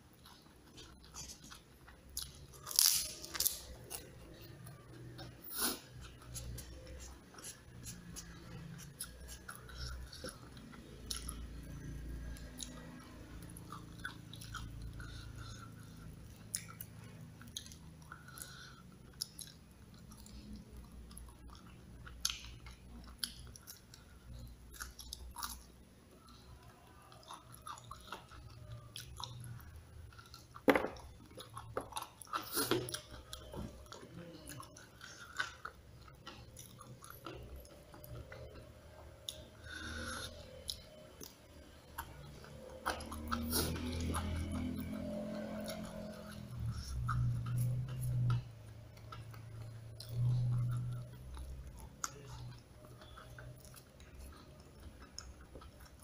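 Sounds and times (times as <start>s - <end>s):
chewing crispy food: 0.0s - 56.0s.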